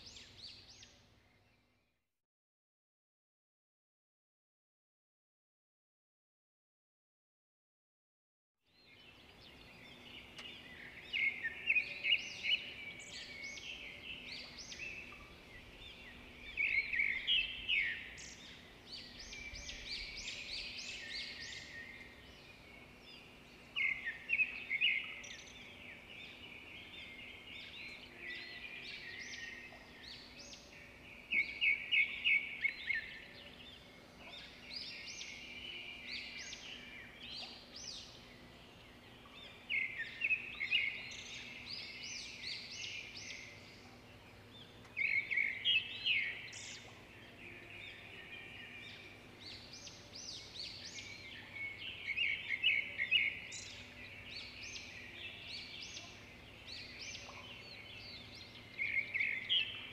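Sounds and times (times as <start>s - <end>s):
birds chirping quietly: 8.7s - 59.9s.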